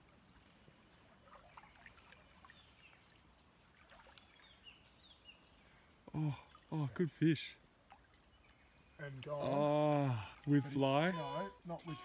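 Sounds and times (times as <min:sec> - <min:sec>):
water trickling in stream: 0:00.0 - 0:12.0.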